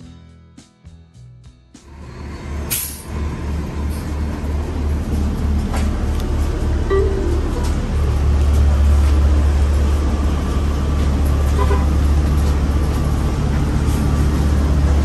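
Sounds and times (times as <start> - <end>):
bus engine rumble: 1.7 - 15.0.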